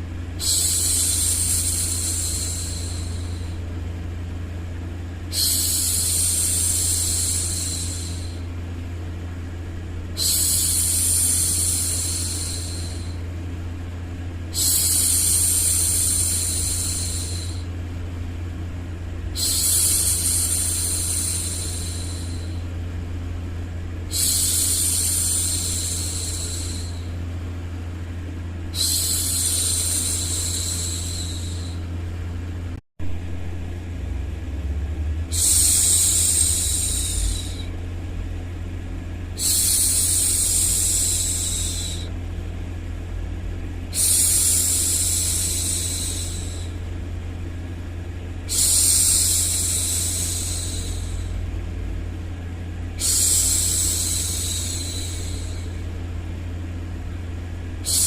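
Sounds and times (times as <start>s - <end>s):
low white noise: 0.0s - 58.0s.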